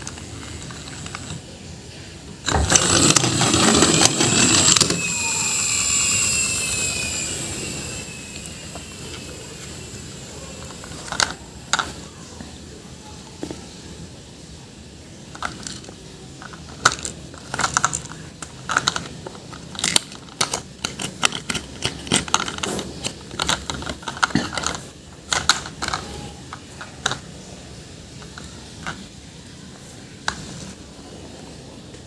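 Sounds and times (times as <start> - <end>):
plastic toys clicking and clattering: 0.0 - 5.6, 7.6 - 12.6, 15.2 - 30.9.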